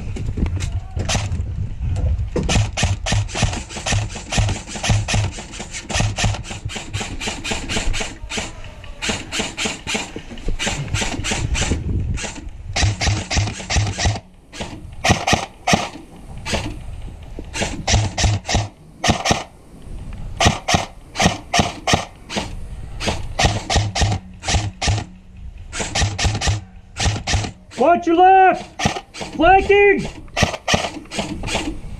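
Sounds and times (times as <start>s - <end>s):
airsoft guns firing: 2.5s - 16.8s, 17.5s - 19.6s, 20.4s - 31.7s.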